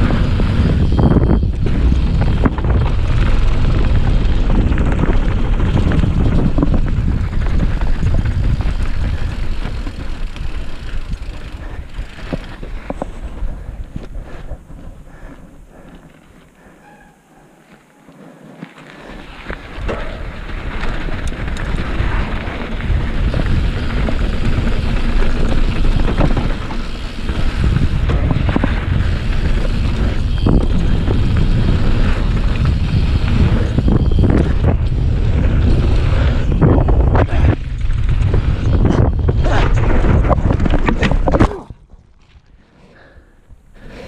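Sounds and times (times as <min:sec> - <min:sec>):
wind rushing over microphone: 0:00.0 - 0:15.8, 0:19.2 - 0:42.0
bike rattles and knocks: 0:00.0 - 0:17.8, 0:18.6 - 0:42.5
tyres on loose dirt: 0:00.0 - 0:44.0.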